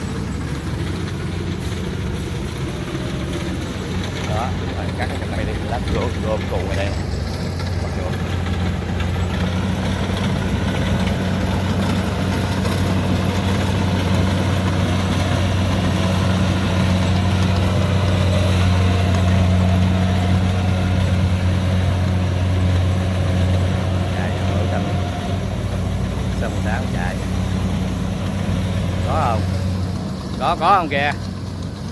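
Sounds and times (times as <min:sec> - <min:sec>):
combine harvester diesel engine: 0:00.0 - 0:31.9.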